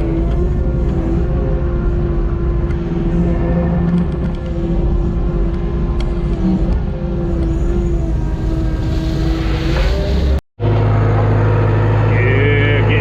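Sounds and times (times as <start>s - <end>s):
diesel engine running with whine: 0.0s - 13.0s.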